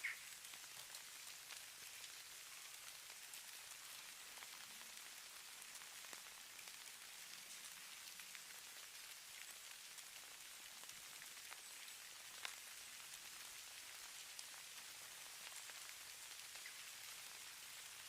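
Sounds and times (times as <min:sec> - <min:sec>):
soft ticks of snow: 0:00.0 - 0:18.0.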